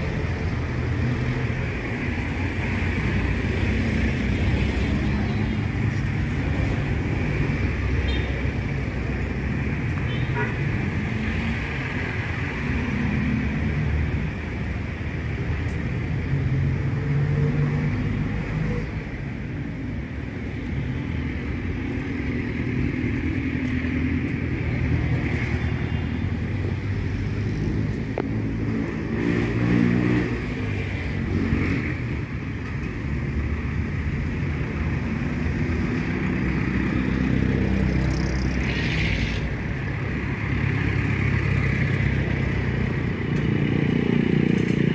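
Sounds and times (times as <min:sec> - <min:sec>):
street traffic rumble: 0:00.0 - 0:44.9.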